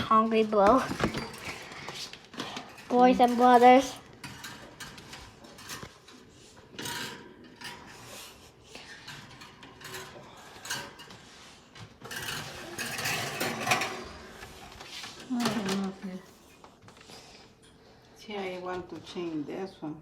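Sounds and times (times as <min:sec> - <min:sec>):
rubbing and clatter: 0:00.0 - 0:16.0.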